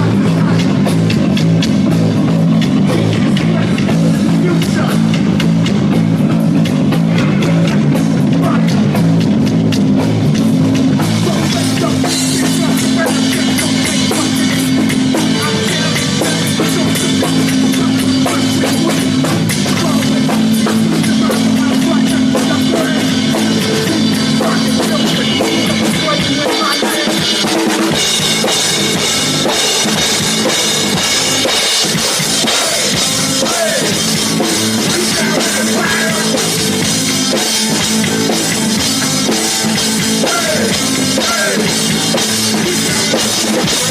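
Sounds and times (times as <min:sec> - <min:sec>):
bass line: 0:00.0 - 0:43.9
drum kit pounding: 0:00.0 - 0:43.9.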